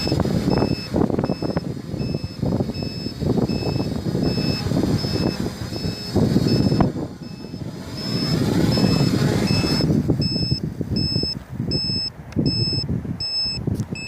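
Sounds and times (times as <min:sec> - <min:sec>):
gusty wind buffeting microphone: 0:00.0 - 0:14.0
short high electronic beep: 0:00.0 - 0:14.0.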